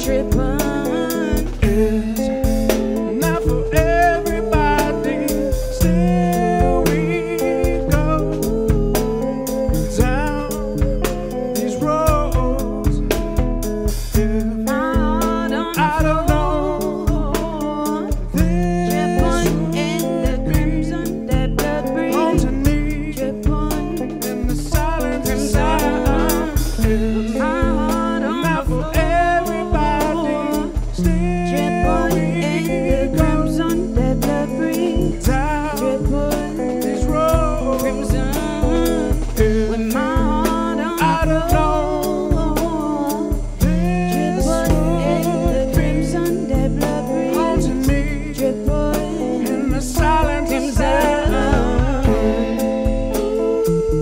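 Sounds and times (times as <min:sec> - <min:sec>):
guitar: 0:00.0 - 0:54.0
man singing along: 0:00.0 - 0:54.0
steady drum beat: 0:00.0 - 0:54.0
woman singing: 0:00.0 - 0:54.0.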